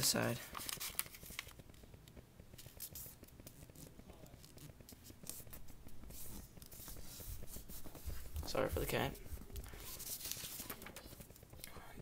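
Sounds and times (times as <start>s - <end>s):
paper rustling and creasing: 0.0s - 1.9s, 2.5s - 11.6s.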